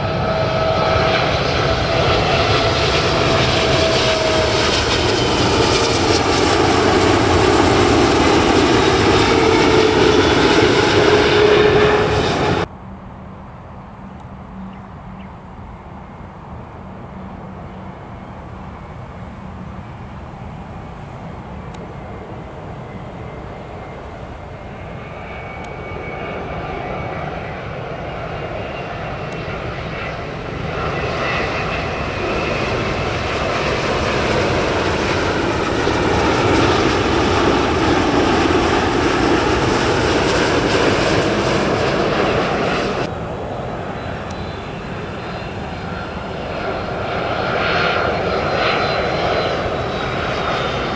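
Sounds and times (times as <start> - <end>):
distant airliner jet noise: 0.0 - 50.9
faint engine whine: 0.0 - 50.9
jet engines passing by: 0.0 - 50.9.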